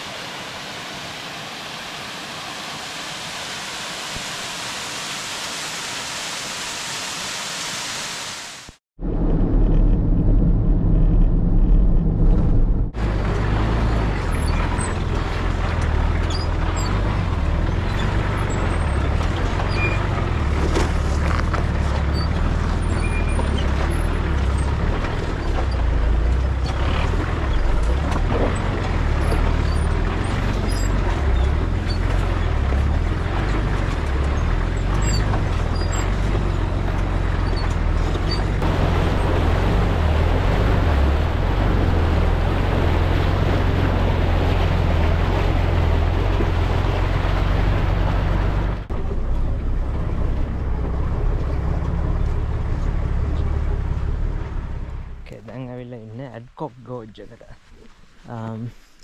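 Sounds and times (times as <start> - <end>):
vehicle engine and tyres rumbling: 8.7 - 59.0.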